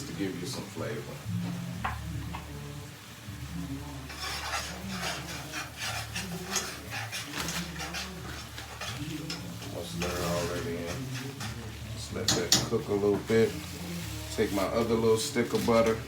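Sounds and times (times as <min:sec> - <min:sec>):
utensil scraping in a pan: 0:00.0 - 0:16.0.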